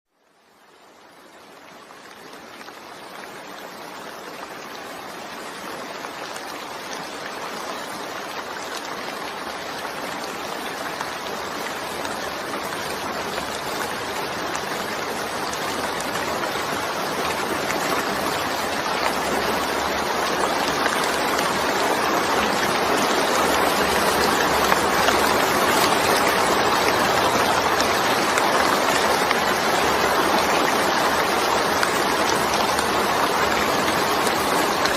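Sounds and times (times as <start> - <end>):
dense rain hiss: 0.1 - 34.9.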